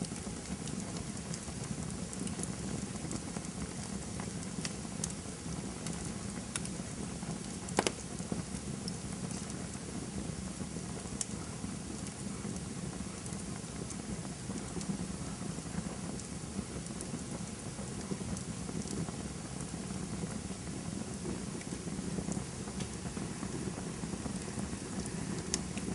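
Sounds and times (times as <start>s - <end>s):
campfire burning rush: 0.0s - 25.9s
fire crackles and pops: 0.0s - 25.9s.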